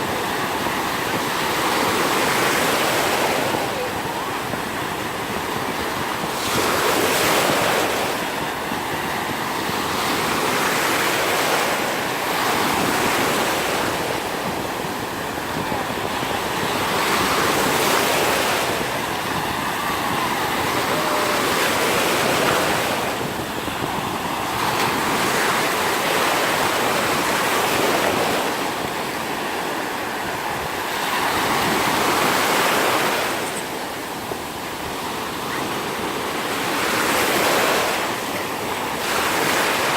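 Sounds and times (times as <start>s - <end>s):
waves breaking on a beach: 0.0s - 39.9s
wind on the microphone: 0.0s - 39.9s.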